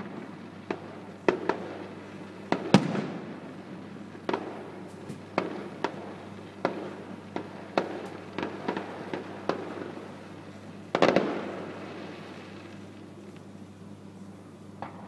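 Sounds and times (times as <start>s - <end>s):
fireworks bangs: 0.0s - 13.1s.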